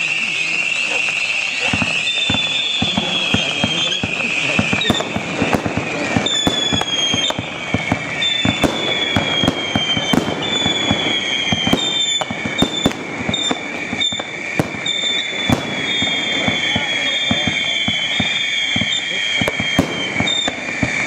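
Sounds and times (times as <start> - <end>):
fireworks bangs and crackles: 0.0 - 21.0
high falling firework whistles: 0.0 - 21.0.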